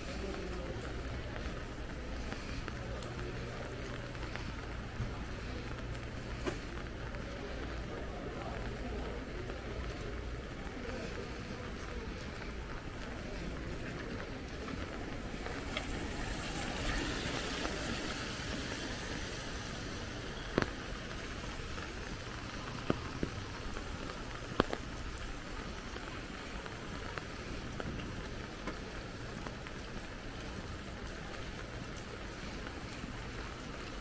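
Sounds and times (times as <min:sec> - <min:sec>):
rain falling on a street: 0:00.0 - 0:34.0.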